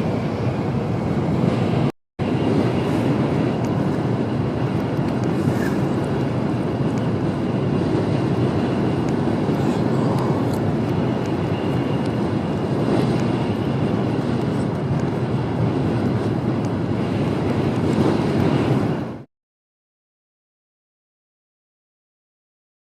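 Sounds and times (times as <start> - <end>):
rushing air: 0.0 - 19.3.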